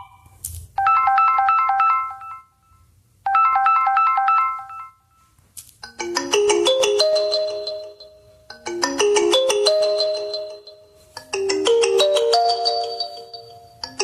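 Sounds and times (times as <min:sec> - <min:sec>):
bright ringtone melody: 0:00.8 - 0:14.0
lower fuller ringtone: 0:00.8 - 0:14.0.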